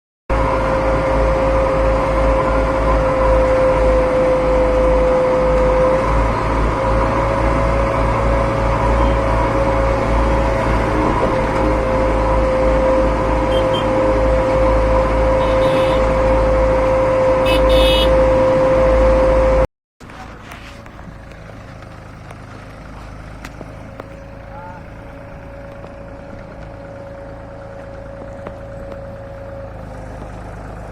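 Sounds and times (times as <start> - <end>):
heavy machine engine running: 0.3 - 30.9.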